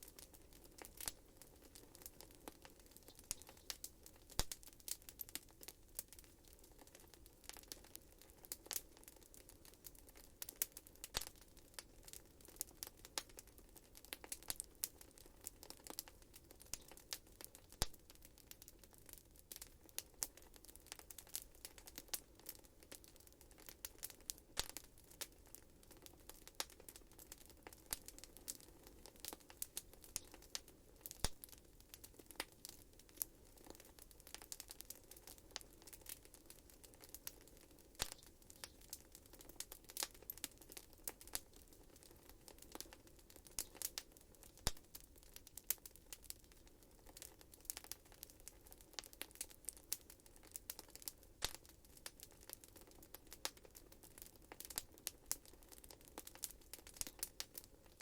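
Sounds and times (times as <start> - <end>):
faint hiss of flames: 0.0 - 58.0
wood fire crackling and popping: 0.0 - 58.0.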